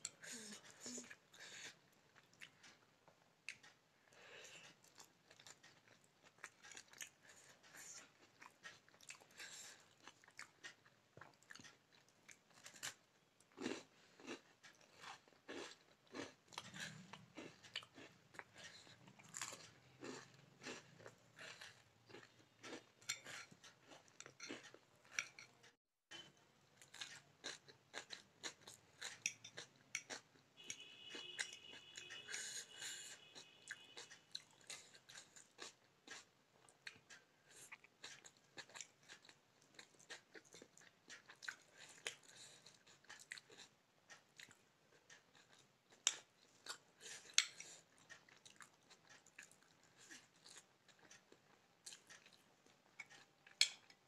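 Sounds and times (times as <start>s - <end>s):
wet chewing and mouth clicks: 0.0s - 54.0s.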